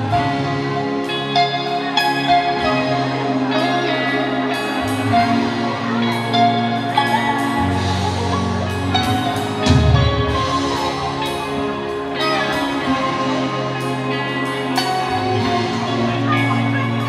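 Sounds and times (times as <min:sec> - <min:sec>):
held bass notes: 0:00.0 - 0:17.0
live band playing: 0:00.0 - 0:17.0.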